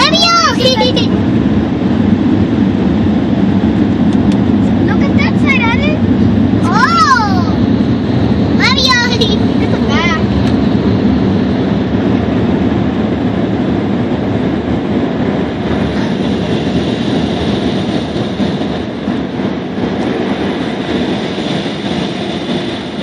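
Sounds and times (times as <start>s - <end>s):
car wash air blowers rushing: 0.0s - 23.0s.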